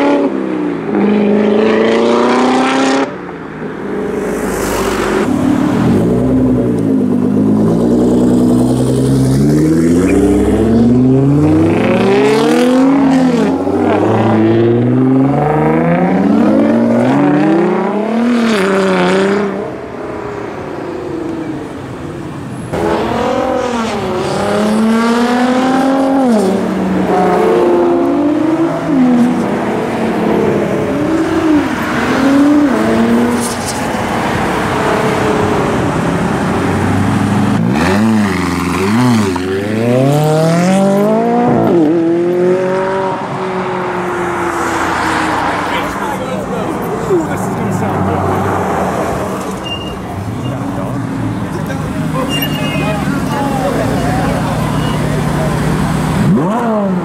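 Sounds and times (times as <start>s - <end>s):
sports cars accelerating hard: 0.0s - 57.0s.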